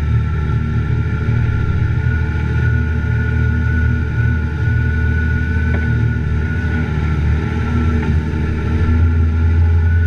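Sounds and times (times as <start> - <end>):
driving through water: 0.0 - 10.0
high whine: 0.0 - 10.0
vehicle engine droning: 0.0 - 10.0.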